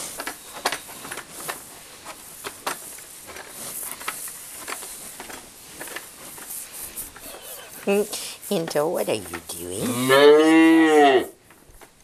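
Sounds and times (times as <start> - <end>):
calf crunching oats in bucket: 0.0 - 12.0.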